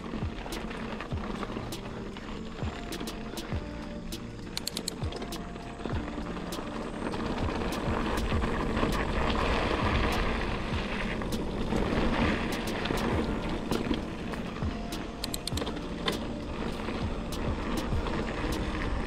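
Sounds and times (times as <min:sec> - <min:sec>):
bike clicks and rattles: 0:00.0 - 0:19.0
tyres on dirt: 0:00.0 - 0:19.0.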